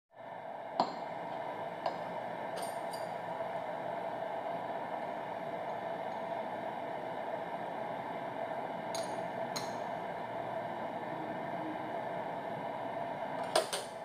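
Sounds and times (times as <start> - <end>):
steady background hiss: 0.2 - 14.0.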